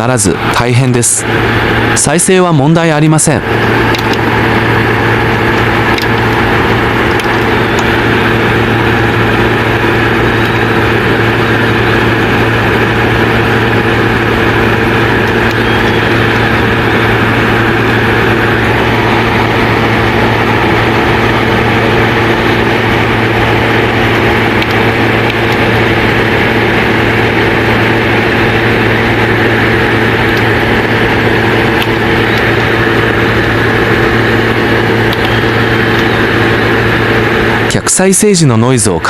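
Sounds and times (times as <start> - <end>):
steady loud multi-tone hum: 0.0 - 39.0.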